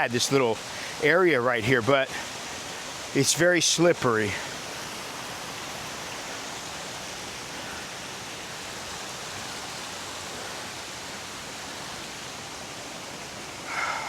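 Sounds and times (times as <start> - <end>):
waterfall rushing over rocks: 0.0 - 14.0.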